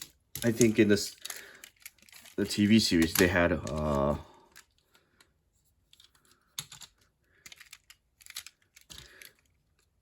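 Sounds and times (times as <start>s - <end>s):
plastic toy parts clicking: 0.0s - 10.0s.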